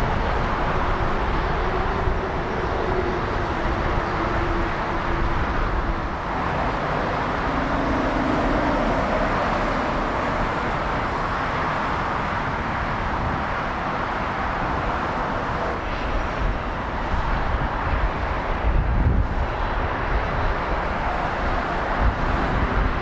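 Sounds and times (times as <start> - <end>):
jet engines rushing and rumbling: 0.0 - 23.0.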